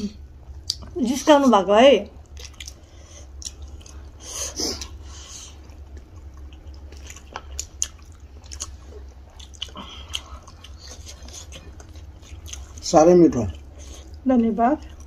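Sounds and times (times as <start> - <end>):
steady low hum: 0.0 - 15.0
chewing food: 0.4 - 1.0, 2.2 - 15.0.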